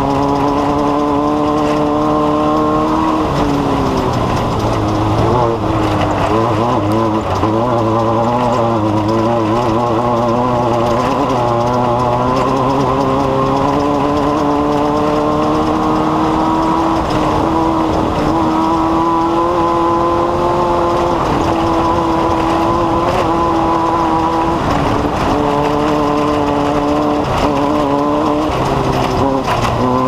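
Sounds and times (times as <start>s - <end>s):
engine humming steadily: 0.0s - 30.0s.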